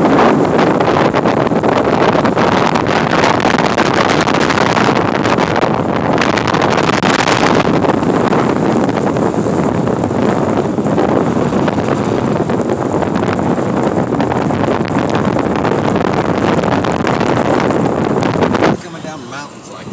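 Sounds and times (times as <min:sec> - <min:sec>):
wind blowing across microphone: 0:00.0 - 0:19.9.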